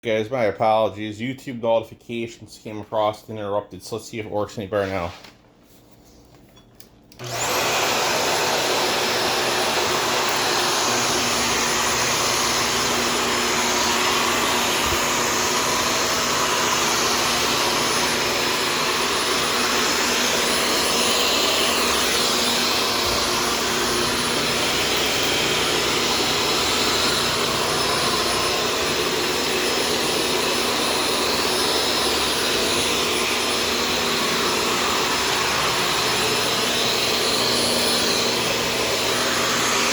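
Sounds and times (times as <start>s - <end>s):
vacuum cleaner switching on: 7.1s - 39.9s
vacuum cleaner running with whine: 7.2s - 39.9s.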